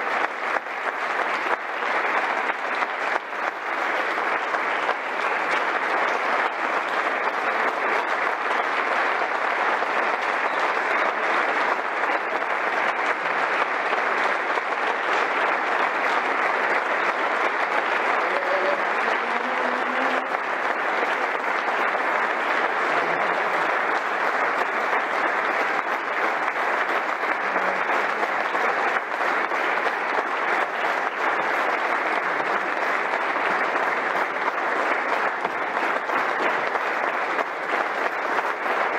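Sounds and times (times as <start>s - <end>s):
crowd applauding: 0.0s - 38.9s.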